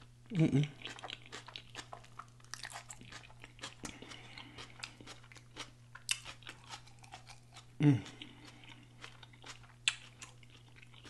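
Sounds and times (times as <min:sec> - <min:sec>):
faint low hum: 0:00.0 - 0:11.0
chewing with mouth clicks: 0:00.6 - 0:11.0.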